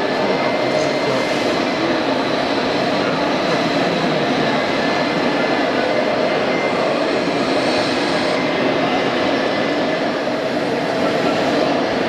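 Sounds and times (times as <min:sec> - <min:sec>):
loud rumbling hall din: 0:00.0 - 0:12.0.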